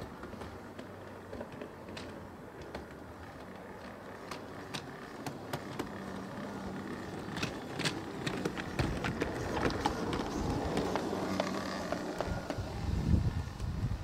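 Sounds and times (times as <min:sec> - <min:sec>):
train clicks and clanks: 0:00.0 - 0:12.8.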